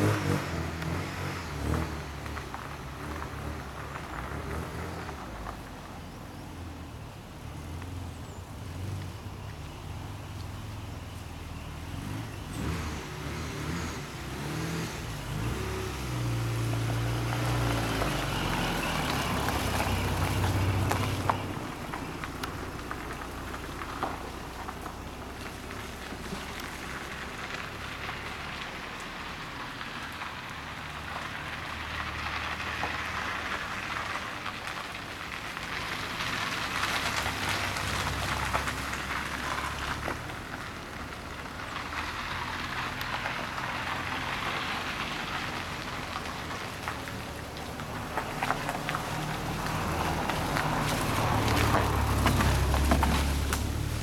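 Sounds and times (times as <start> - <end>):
tyres hissing on wet tarmac: 8.6 - 54.0.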